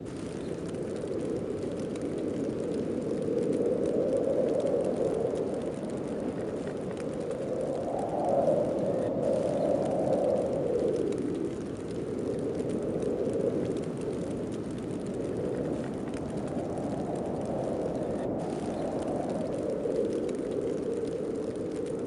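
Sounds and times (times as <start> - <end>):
snowstorm wind blowing: 0.0 - 22.0.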